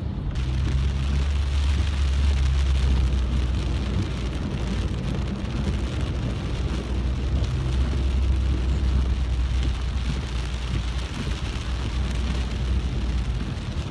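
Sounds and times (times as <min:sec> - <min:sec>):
car low rumble: 0:00.0 - 0:13.9
heavy rain on car roof: 0:00.0 - 0:13.9.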